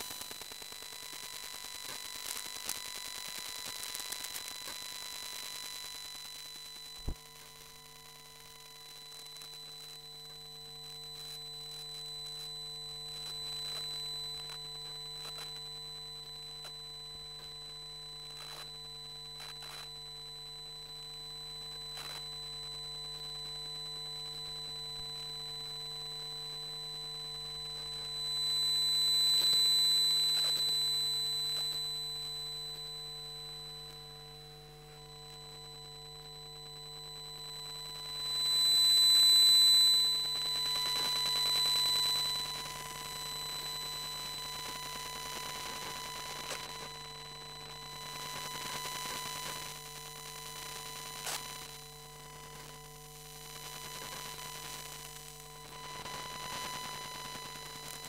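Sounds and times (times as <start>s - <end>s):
electrical buzz with high whine: 0.0s - 58.0s.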